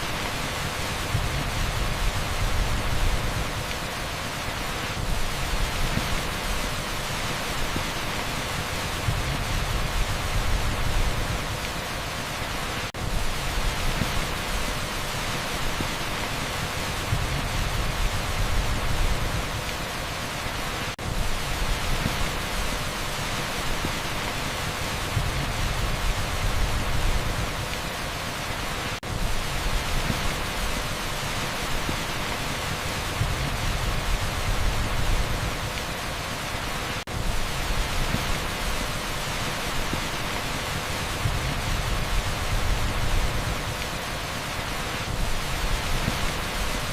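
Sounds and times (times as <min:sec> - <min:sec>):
heavy pink noise: 0:00.0 - 0:46.9
torrential rain on street: 0:00.0 - 0:46.9.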